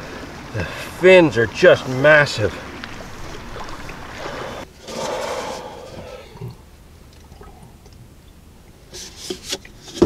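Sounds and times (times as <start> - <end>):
water splashing and running: 0.0 - 10.0.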